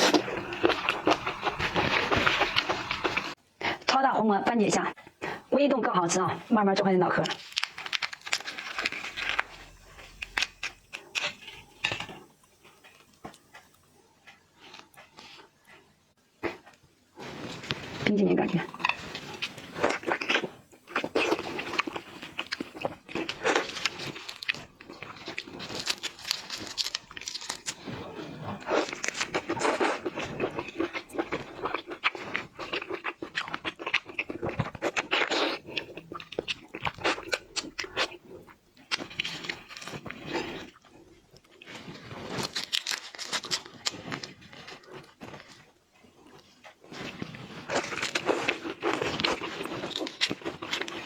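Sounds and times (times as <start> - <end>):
person chewing crunchy shrimp: 0.0 - 3.9, 7.3 - 15.4, 18.6 - 51.0.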